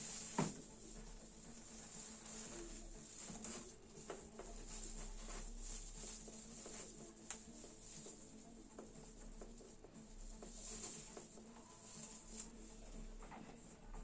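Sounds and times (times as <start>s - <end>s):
steady low hum and hiss: 0.0s - 14.0s.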